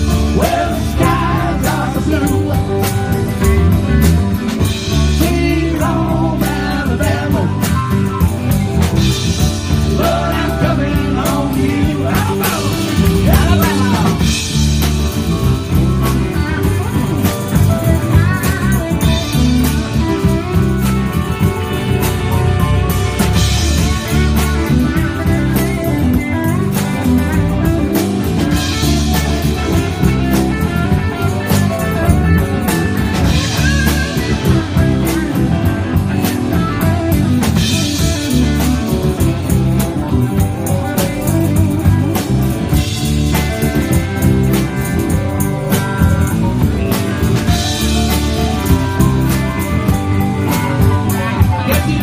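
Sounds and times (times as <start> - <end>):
drum kit with cymbals: 0.0 - 52.0
electric bass guitar: 0.0 - 52.0
electric guitar: 0.0 - 52.0.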